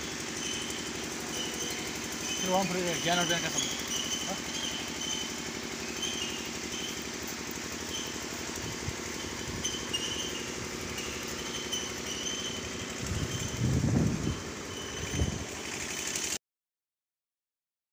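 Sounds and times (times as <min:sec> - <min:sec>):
car engine running: 0:00.0 - 0:16.4.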